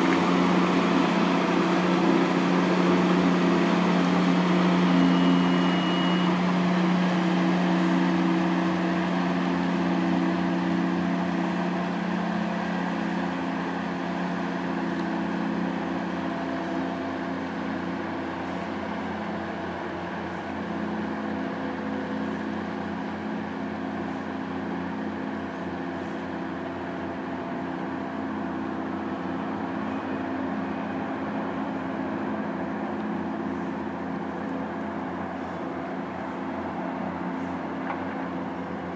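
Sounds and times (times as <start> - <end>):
boat engines humming: 0.0 - 38.9.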